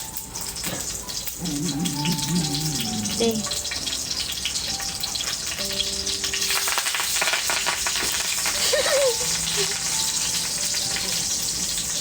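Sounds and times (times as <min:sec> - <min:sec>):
meat sizzling and popping: 0:00.0 - 0:12.0.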